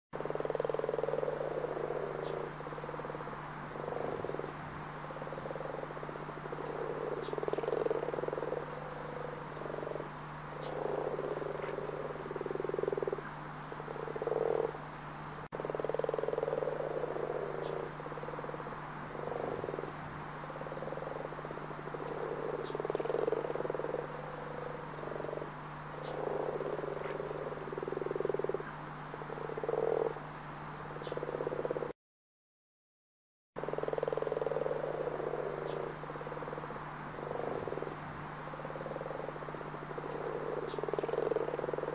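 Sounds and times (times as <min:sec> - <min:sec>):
frogs croaking: 0:00.2 - 0:31.9, 0:33.6 - 0:41.9.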